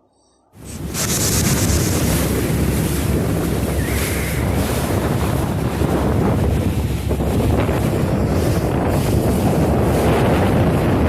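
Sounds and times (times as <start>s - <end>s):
boat engine running: 0.6s - 11.0s
rushing water: 0.6s - 11.0s
wind noise on microphone: 0.6s - 11.0s.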